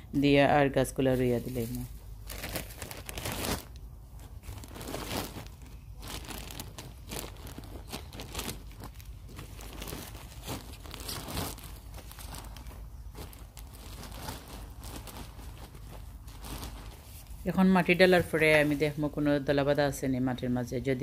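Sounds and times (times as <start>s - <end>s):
soil crunching and crinkling: 1.2s - 19.3s.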